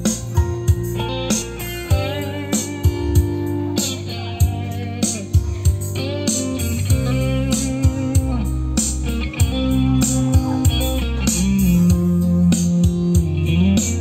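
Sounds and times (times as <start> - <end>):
guitar lines bending in pitch: 0.0 - 14.0
pop song over speakers: 0.0 - 14.0
sustained bass: 0.0 - 14.0.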